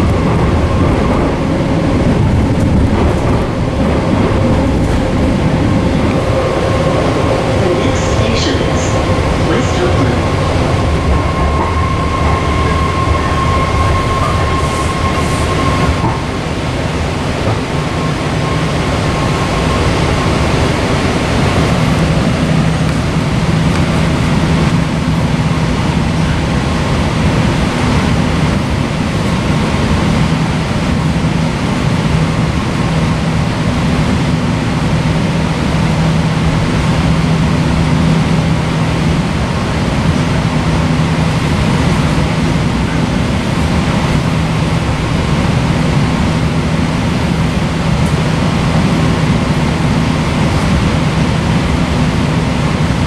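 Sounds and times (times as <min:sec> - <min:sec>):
high steady whine: 0:00.0 - 0:53.0
train wheels rumbling on rails: 0:00.0 - 0:53.0.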